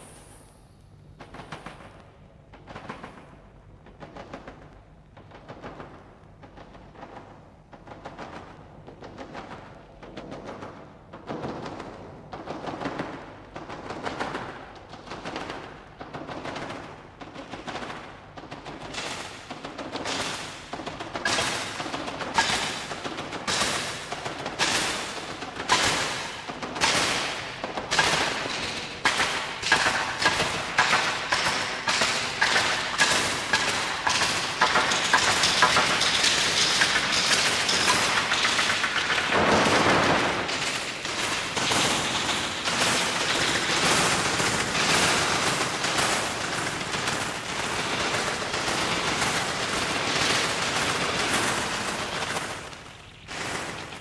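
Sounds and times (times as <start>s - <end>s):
electroacoustic clicks and rattling: 0.7s - 54.0s.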